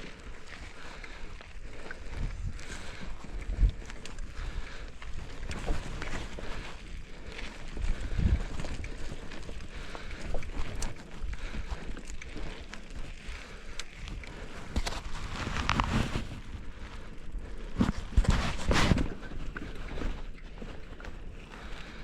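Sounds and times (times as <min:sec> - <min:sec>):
bike clicks and rattles: 0:00.0 - 0:22.0
wind rumbling on microphone: 0:00.0 - 0:22.0.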